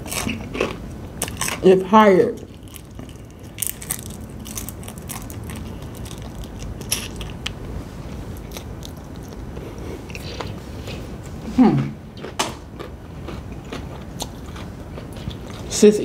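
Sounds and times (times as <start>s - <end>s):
chewing crispy fried chicken: 0.0s - 1.7s, 2.3s - 11.1s, 12.2s - 16.0s.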